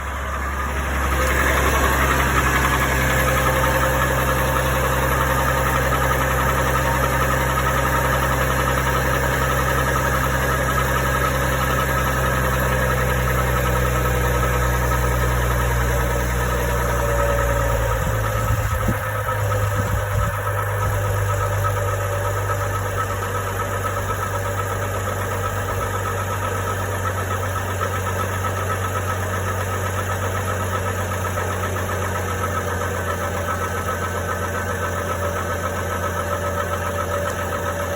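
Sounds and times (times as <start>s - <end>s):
engine idling with knock: 0.0s - 37.9s.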